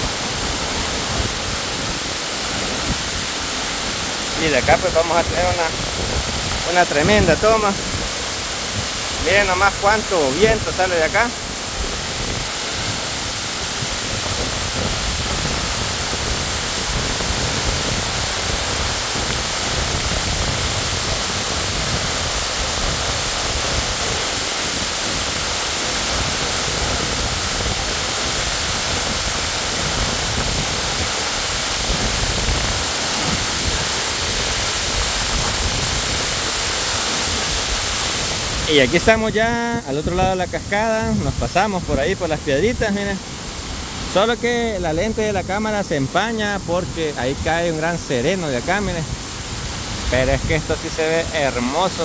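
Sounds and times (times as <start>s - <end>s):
waterfall rushing: 0.0s - 52.0s
wind buffeting microphone: 0.1s - 43.0s.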